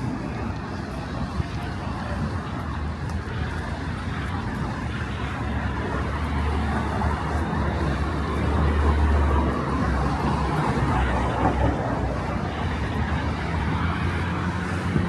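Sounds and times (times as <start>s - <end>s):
passing vehicle engine rumble: 0.0s - 15.0s
traffic noise: 0.0s - 15.0s.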